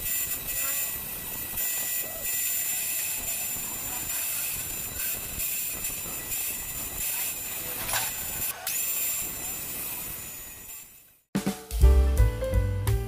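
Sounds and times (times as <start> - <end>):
disc grinding metal sheet: 0.0 - 11.0
angle grinder whining: 0.0 - 11.2.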